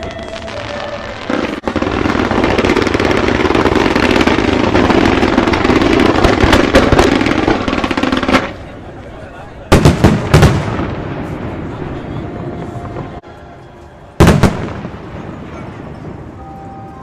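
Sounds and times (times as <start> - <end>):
fireworks bangs and crackles: 0.0 - 13.2, 14.2 - 16.4.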